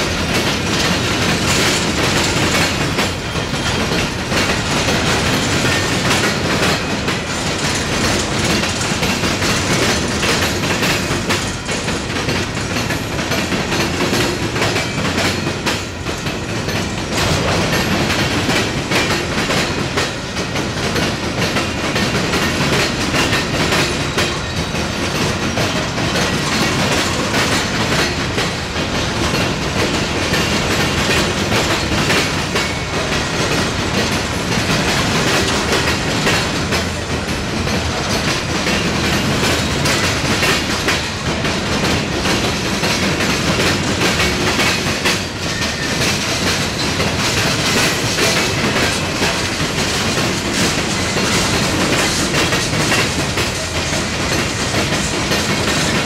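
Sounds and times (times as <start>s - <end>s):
train wheels clattering over crossings: 0.0s - 56.0s.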